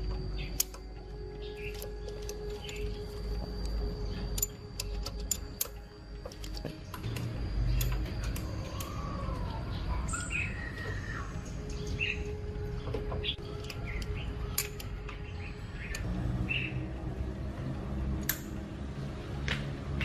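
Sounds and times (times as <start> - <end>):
birds chirping: 0.0 - 17.0
low steady hum: 0.0 - 20.0.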